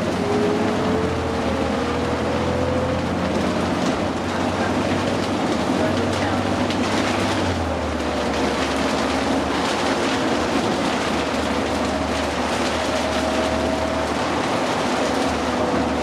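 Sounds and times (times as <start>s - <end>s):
bus engine drone: 0.0s - 16.0s
road noise: 0.0s - 16.0s.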